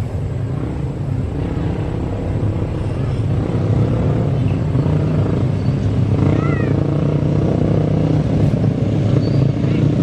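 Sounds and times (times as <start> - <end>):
loud engine rumble: 0.0 - 10.0.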